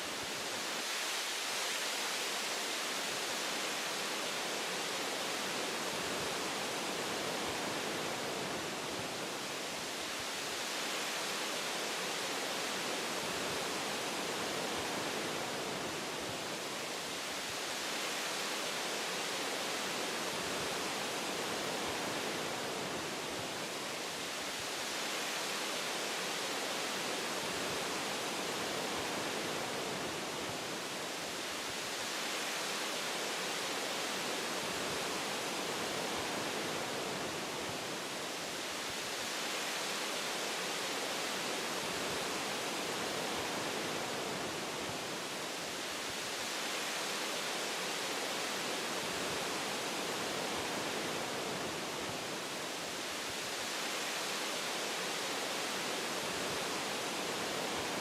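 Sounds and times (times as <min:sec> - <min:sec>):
wind through tree branches: 0:00.0 - 0:58.0.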